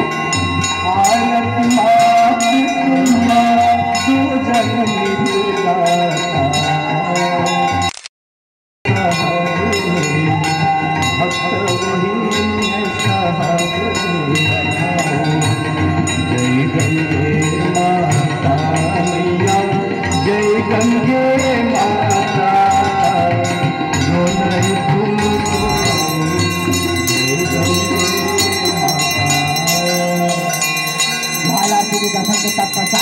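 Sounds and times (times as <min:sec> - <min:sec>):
bells ringing rapidly: 0:00.0 - 0:07.9, 0:08.9 - 0:33.0
person singing devotional song: 0:00.0 - 0:07.9, 0:08.9 - 0:33.0.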